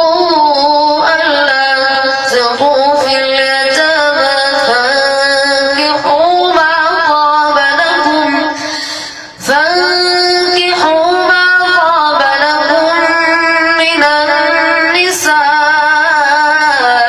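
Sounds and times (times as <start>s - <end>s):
boy chanting melodically: 0.0s - 17.0s.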